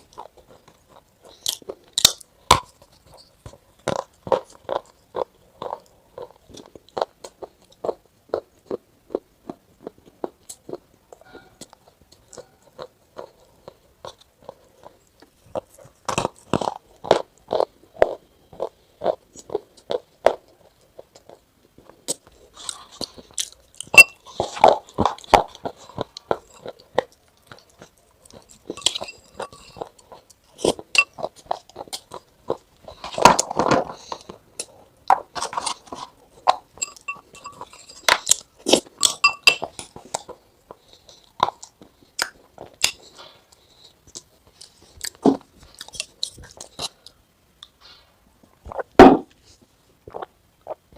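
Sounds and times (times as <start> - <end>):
crunching and crackling clicks: 0.0 - 47.8.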